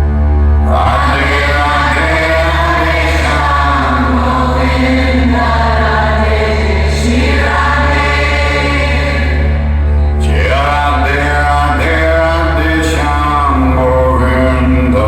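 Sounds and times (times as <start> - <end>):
heavy deep bass: 0.0 - 15.0
sung vocals over loudspeakers: 0.0 - 15.0.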